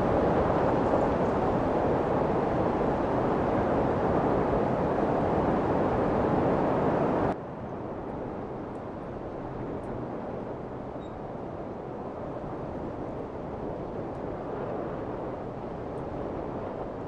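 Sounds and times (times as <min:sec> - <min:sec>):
outdoor background rush: 0:00.0 - 0:17.0.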